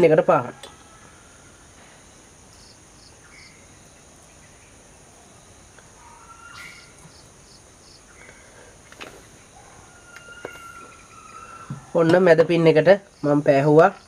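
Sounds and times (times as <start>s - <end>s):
bird and insect calls: 0.0s - 14.0s
steady hiss: 0.0s - 14.0s.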